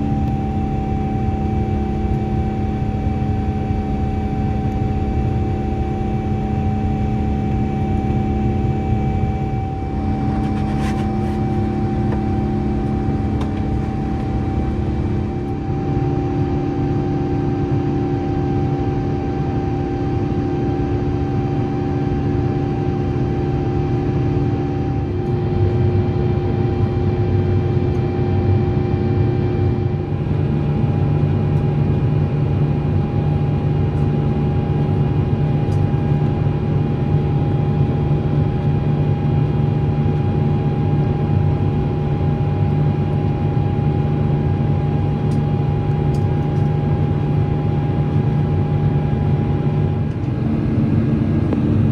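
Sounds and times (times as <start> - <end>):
airplane cabin noise: 0.0 - 51.9
steady humming tones: 0.0 - 51.9.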